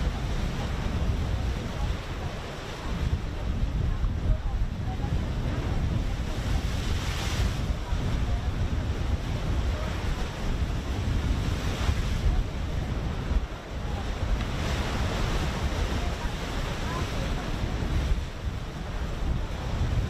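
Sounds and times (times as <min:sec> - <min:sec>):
waves rushing: 0:00.0 - 0:20.0
wind buffeting microphone: 0:00.0 - 0:20.0.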